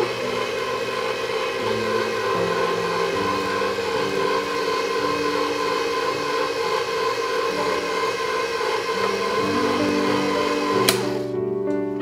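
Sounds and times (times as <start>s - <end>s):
stand mixer motor running: 0.0s - 11.3s.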